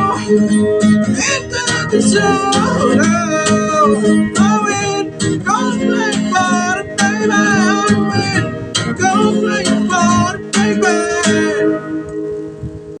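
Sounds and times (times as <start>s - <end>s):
pitch-bending melody line: 0.0s - 13.0s
strummed acoustic guitar: 0.0s - 13.0s.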